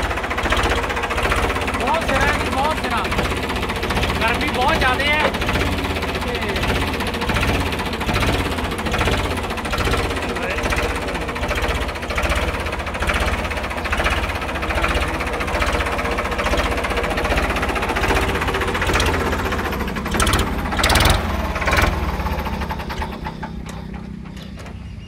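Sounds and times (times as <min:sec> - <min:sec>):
diesel tractor engine running: 0:00.0 - 0:25.0.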